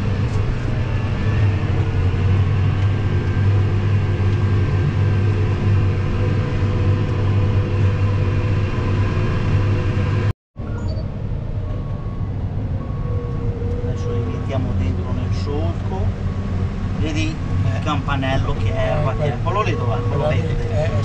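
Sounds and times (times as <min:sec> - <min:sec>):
tractor diesel engine droning: 0:00.0 - 0:21.0.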